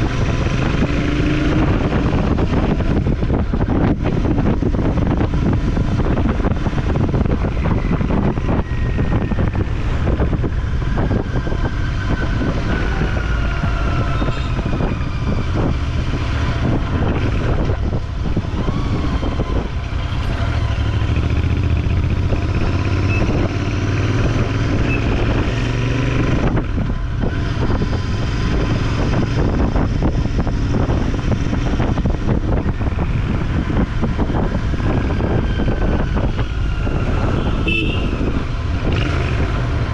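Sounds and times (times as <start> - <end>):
road and wind noise: 0.0 - 39.9
vehicles passing: 0.0 - 39.9.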